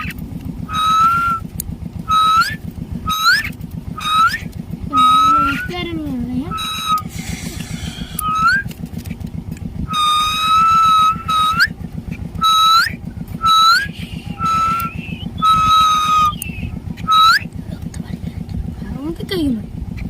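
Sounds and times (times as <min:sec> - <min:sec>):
clear whistled notes: 0:00.0 - 0:08.8, 0:09.8 - 0:17.6
steady low rumble: 0:00.0 - 0:20.0.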